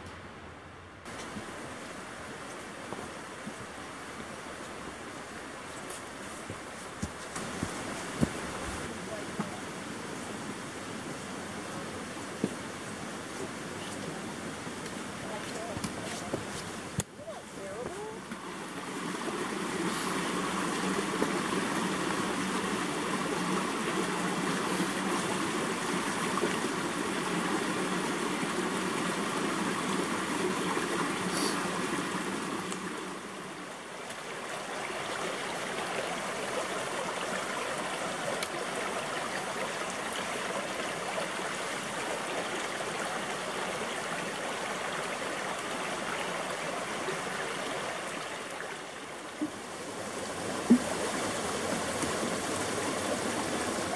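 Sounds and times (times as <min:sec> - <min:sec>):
creek rushing over rocks: 0:01.0 - 0:53.9.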